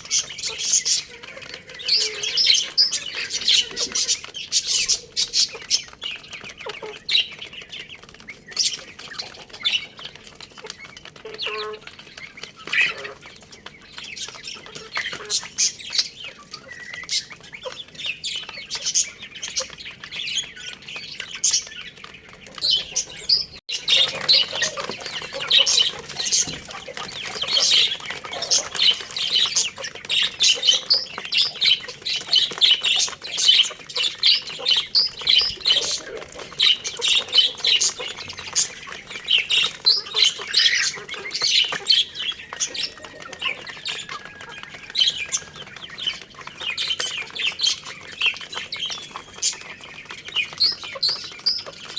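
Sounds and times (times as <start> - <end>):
chicks chirping: 0.0 - 51.9.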